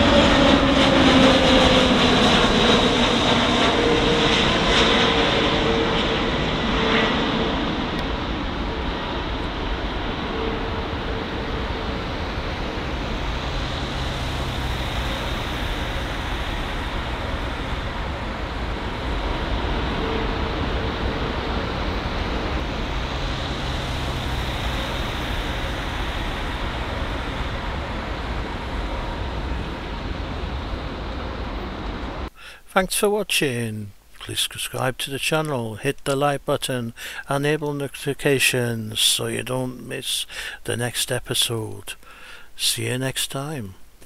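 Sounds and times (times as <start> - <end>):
jet engines landing: 0.0 - 44.0.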